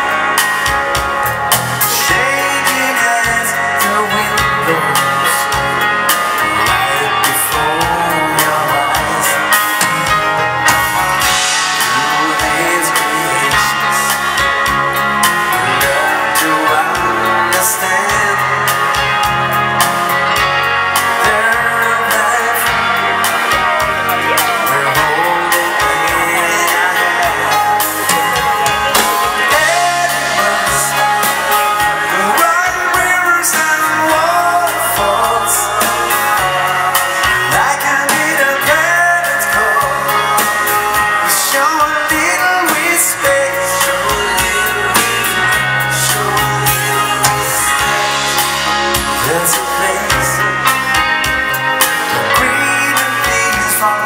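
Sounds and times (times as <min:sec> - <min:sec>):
dance band playing over pa: 0:00.0 - 0:54.0.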